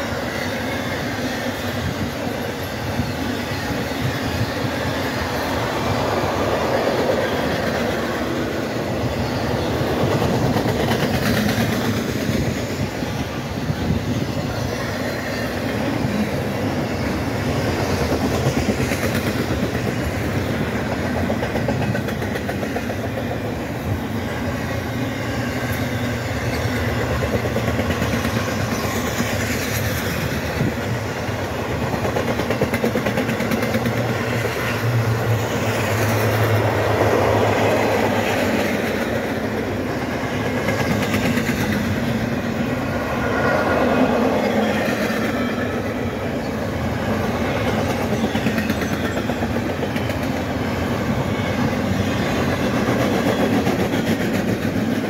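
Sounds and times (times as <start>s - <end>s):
steel wheels on rails: 0.0s - 55.0s.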